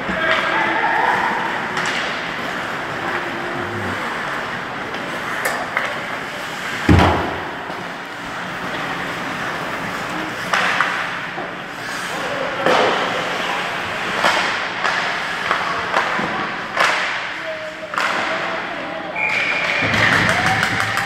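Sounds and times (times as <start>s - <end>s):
skating and arena noise: 0.0s - 21.0s.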